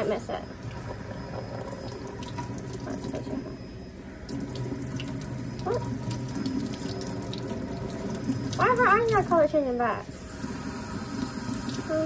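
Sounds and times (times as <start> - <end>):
faucet water splashing into sink: 0.6 - 3.6, 4.2 - 9.6, 10.2 - 12.0.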